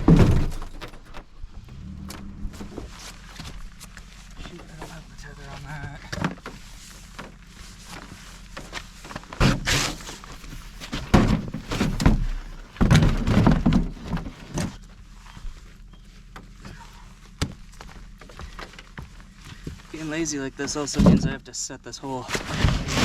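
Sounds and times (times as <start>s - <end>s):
gear thumping and rustling: 0.0s - 21.5s.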